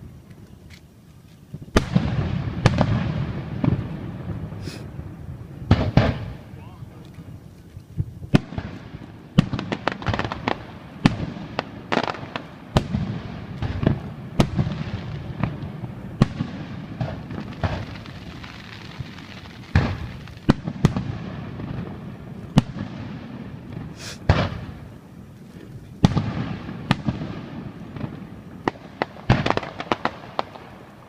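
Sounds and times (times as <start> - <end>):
fireworks banging: 0.0 - 31.0
low rumble and crackle: 0.0 - 31.0.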